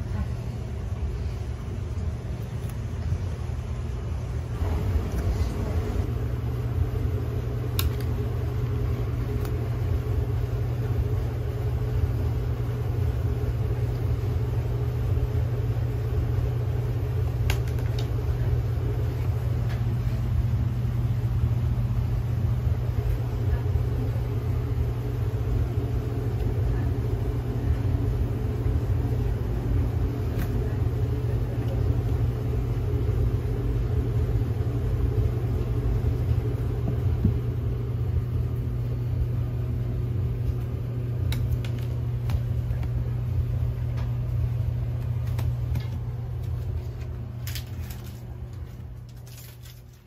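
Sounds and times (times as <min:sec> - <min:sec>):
low rumble or hum: 0:00.0 - 0:50.0.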